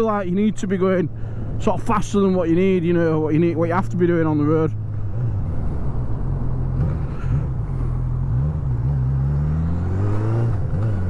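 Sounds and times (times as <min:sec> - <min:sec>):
steady rushing noise: 0:00.0 - 0:08.9.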